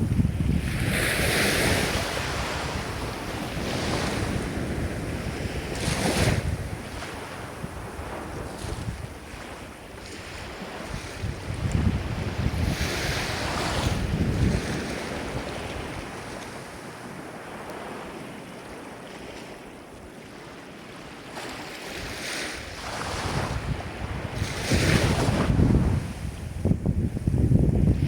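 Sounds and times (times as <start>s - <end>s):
ocean waves breaking: 0.0s - 26.6s.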